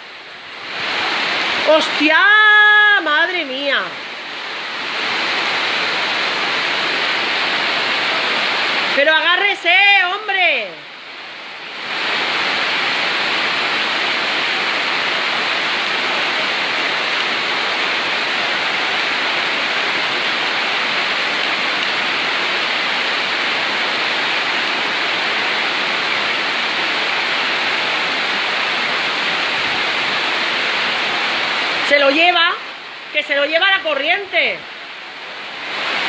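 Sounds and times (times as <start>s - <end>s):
floodwater rushing down street: 0.0s - 36.0s
torrential rain: 0.0s - 36.0s.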